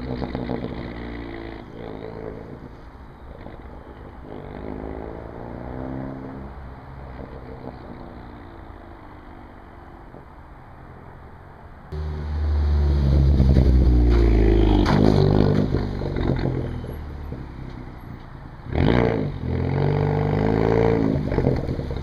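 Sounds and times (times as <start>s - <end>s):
car exhaust accelerating: 0.0s - 11.1s, 11.9s - 22.0s.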